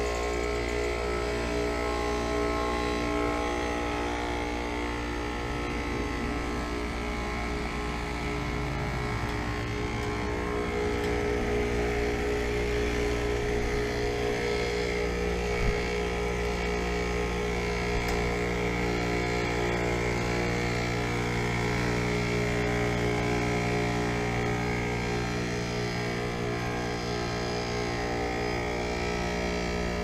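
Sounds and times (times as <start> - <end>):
heat pump humming: 0.0 - 30.0.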